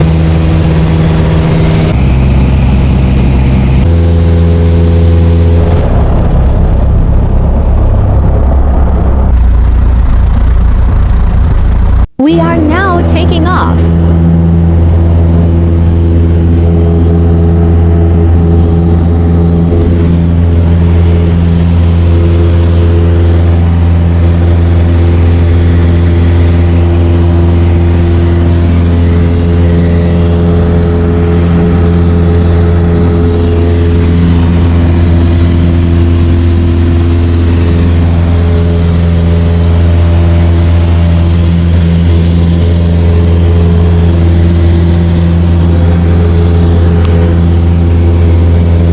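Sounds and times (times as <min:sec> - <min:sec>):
light aircraft engine drone: 0:00.0 - 0:48.9.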